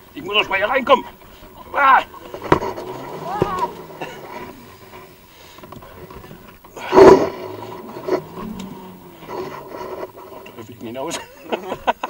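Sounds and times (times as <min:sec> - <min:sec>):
vehicle engine running low: 0:00.0 - 0:12.0
loud engine rev: 0:01.2 - 0:11.8.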